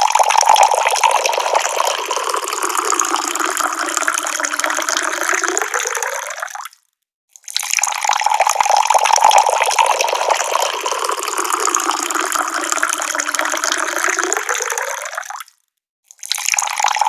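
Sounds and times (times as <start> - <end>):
tap water pouring: 0.0 - 6.8, 7.4 - 15.5, 16.1 - 17.0.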